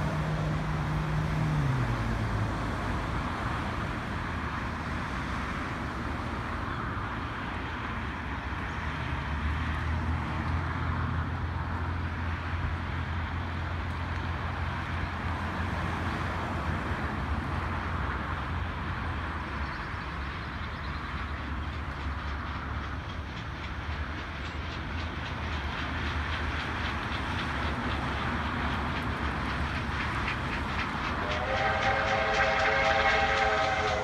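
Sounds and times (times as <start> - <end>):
steam locomotives rumbling: 0.0 - 34.0.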